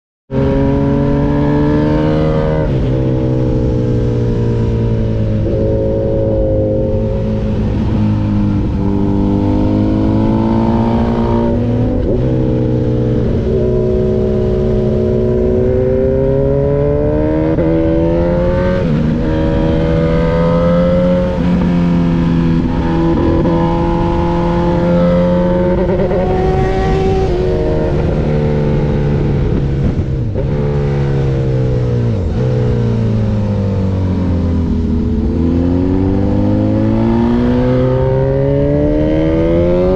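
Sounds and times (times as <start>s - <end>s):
motorcycle engine revving: 0.3s - 39.9s.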